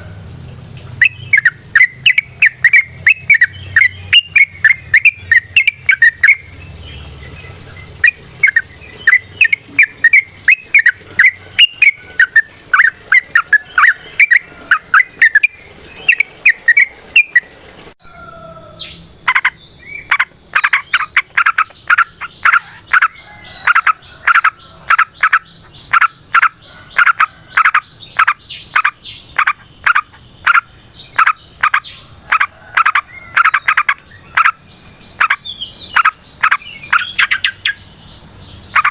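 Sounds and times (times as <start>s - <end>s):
bulbul singing bubbling chirps: 0.0s - 17.6s, 18.7s - 38.9s.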